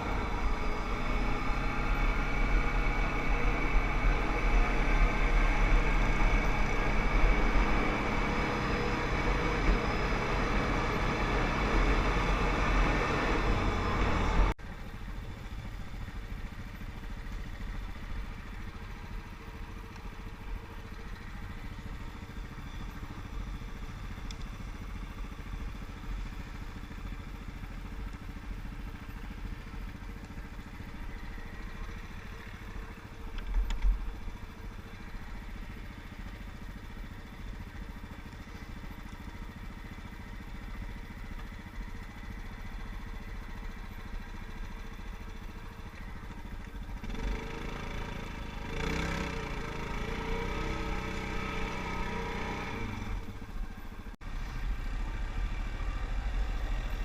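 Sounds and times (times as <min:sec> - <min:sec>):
quad bike engines running: 0:00.0 - 0:57.0
steady engine rumble: 0:00.0 - 0:57.0.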